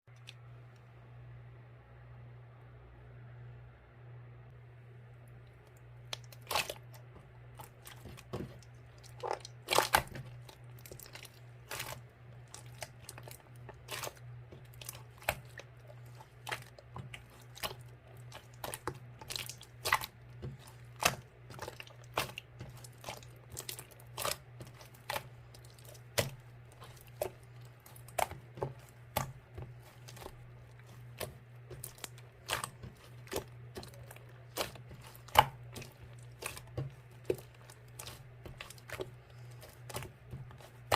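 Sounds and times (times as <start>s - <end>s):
steady low hum: 0.1s - 40.9s
slime squished by hand: 6.0s - 40.9s.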